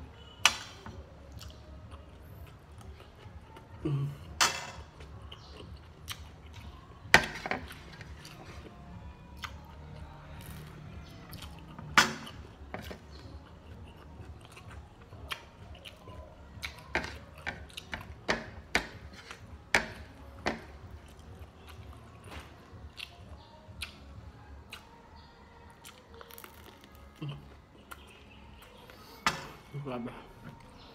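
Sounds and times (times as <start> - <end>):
chewing and mouth sounds: 0.2 - 29.2.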